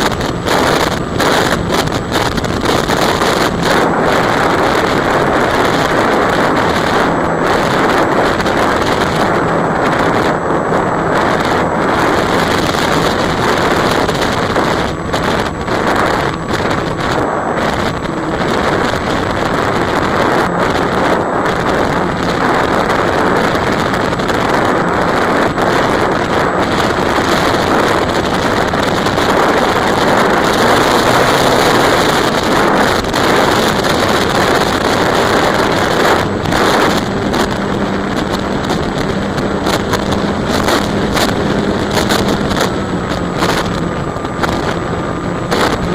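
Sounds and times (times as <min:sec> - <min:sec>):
electric motor and propeller: 0:00.0 - 0:45.9
rush of air: 0:00.0 - 0:45.9.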